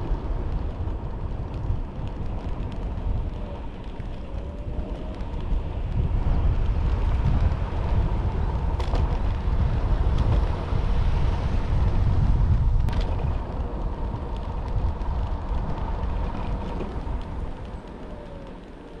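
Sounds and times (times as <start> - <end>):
road rumble: 0.0 - 19.0
wind buffeting microphone: 0.0 - 19.0.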